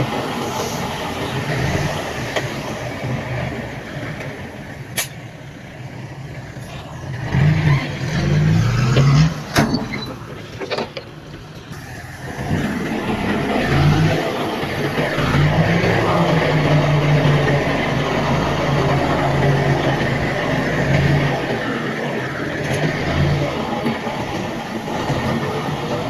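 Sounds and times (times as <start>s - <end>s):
heavy machinery engine revving: 0.0s - 26.0s.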